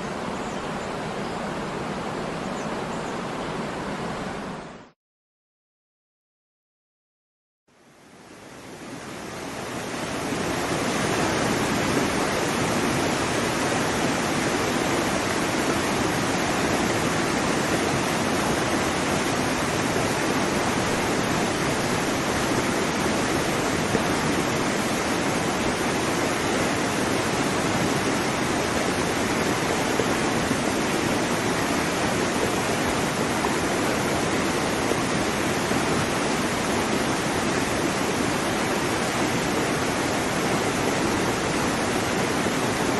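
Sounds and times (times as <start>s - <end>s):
waterfall rushing and splashing: 7.8s - 42.9s.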